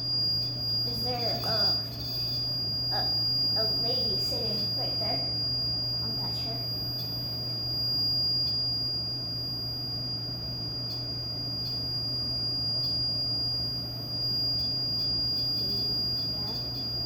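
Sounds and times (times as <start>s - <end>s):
high-pitched alarm tone: 0.0s - 17.0s
low background hum: 0.0s - 17.0s.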